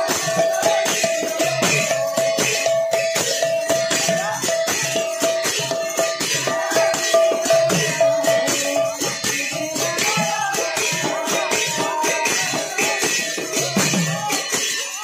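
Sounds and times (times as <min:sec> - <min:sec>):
hand cymbals clashing: 0:00.0 - 0:15.0.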